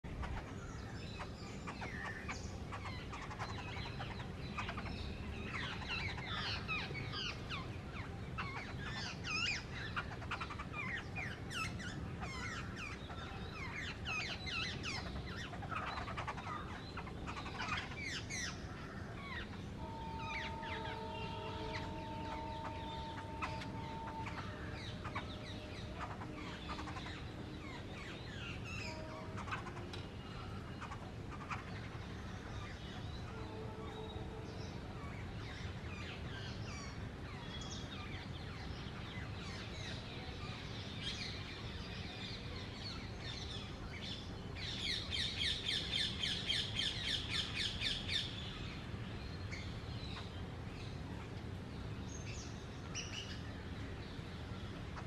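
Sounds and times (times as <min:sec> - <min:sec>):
faint steady tone: 0:00.1 - 0:55.0.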